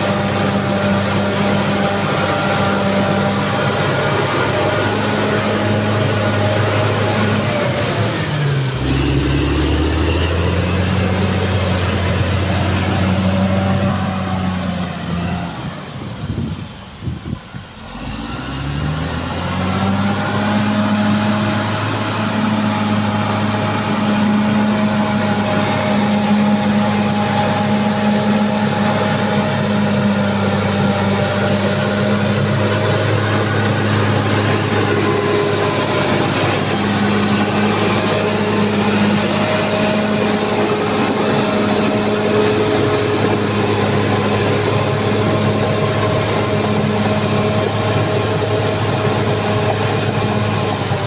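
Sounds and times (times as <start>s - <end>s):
bulldozer diesel engine: 0.0s - 51.0s.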